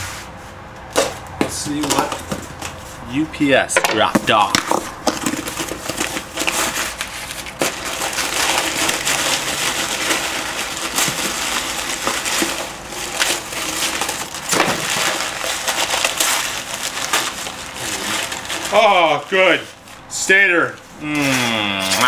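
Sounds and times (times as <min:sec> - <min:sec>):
cardboard and packing crinkling: 0:01.0 - 0:03.0, 0:04.2 - 0:20.0.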